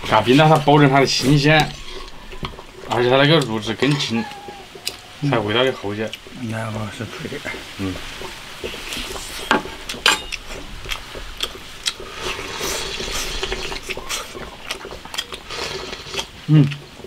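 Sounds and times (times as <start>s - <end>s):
person chewing food: 0.0s - 17.0s
wet slurping: 0.0s - 17.0s.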